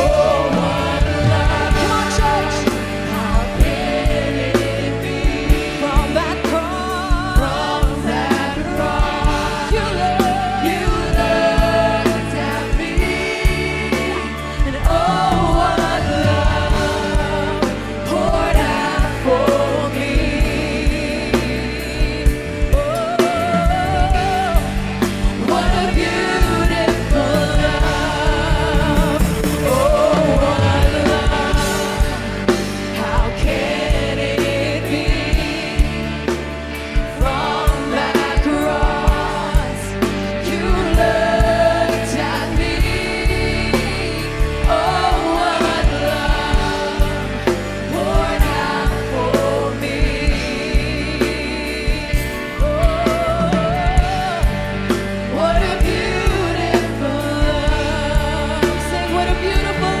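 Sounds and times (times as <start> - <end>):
backing singers: 0.0 - 60.0
band playing: 0.0 - 60.0
woman singing lead: 0.0 - 60.0.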